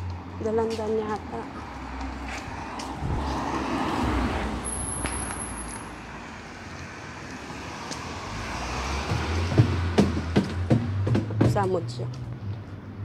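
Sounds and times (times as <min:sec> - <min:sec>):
traffic approaching: 0:00.0 - 0:13.0
vehicle passing on street: 0:00.0 - 0:13.0.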